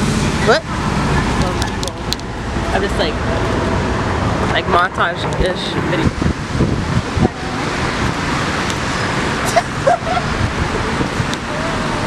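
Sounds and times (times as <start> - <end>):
road traffic: 0.0 - 12.0
wind: 0.0 - 12.0.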